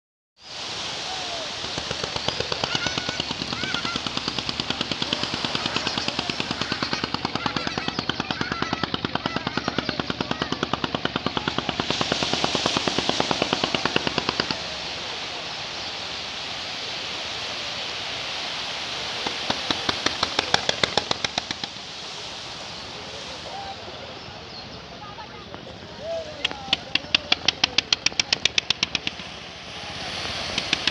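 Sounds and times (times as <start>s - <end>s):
sea wash: 0.4s - 30.9s
boat engine chugging: 0.8s - 30.9s.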